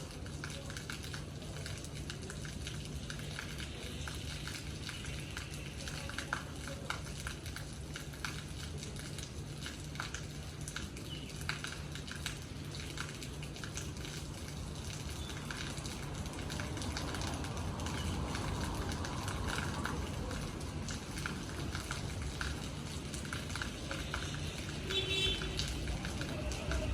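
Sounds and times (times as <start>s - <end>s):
rain falling: 0.0s - 26.9s
raindrops pattering on a surface: 0.0s - 26.9s.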